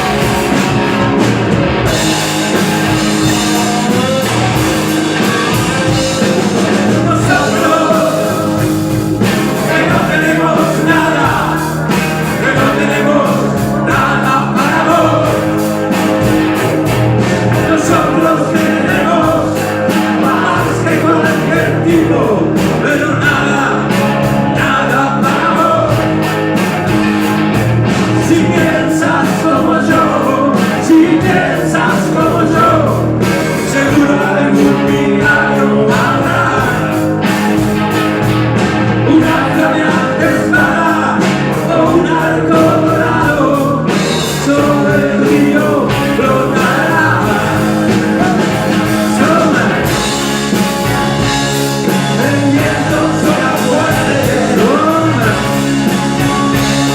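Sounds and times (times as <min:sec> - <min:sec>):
rock band playing with singing: 0:00.0 - 0:56.9.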